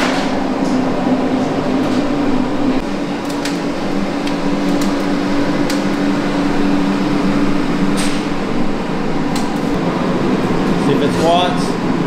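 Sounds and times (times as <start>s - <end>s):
mechanical hum and whir: 0.0s - 12.0s.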